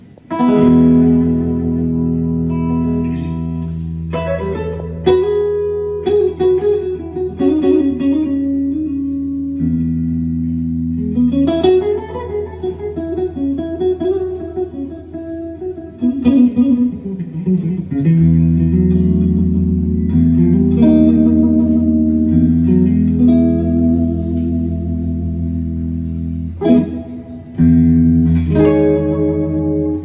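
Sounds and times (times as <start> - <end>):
electric guitar chords and licks: 0.0 - 30.0.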